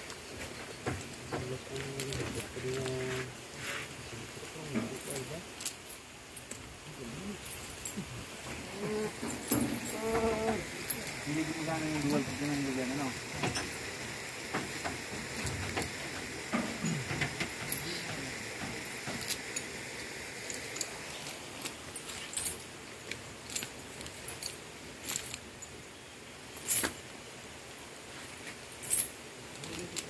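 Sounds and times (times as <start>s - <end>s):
metal chains clinking: 0.0s - 25.8s, 26.5s - 30.0s.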